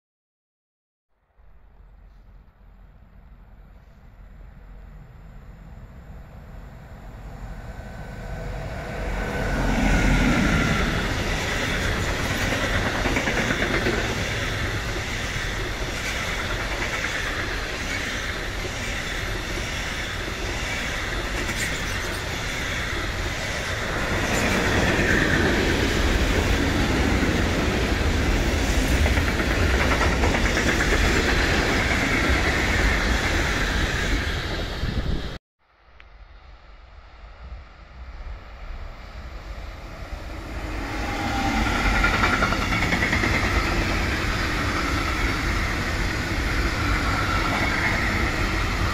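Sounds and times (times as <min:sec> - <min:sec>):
freight train passing: 0:01.4 - 0:35.4, 0:36.2 - 0:48.9.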